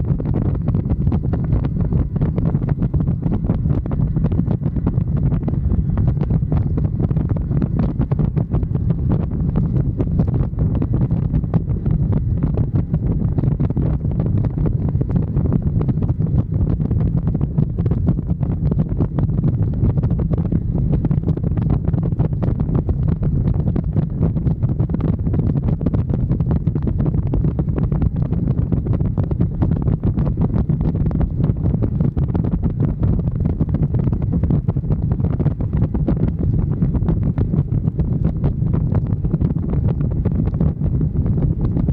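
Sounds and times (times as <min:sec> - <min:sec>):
motorcycle road and engine noise: 0:00.0 - 0:41.9
wind buffeting microphone: 0:00.0 - 0:41.9.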